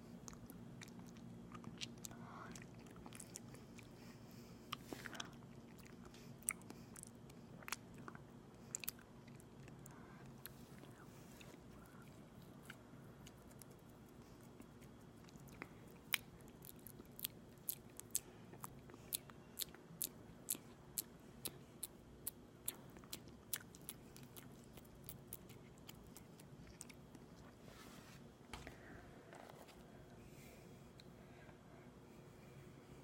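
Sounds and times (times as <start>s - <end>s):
wet sticky chewing clicks: 0.3s - 3.9s, 4.7s - 27.5s.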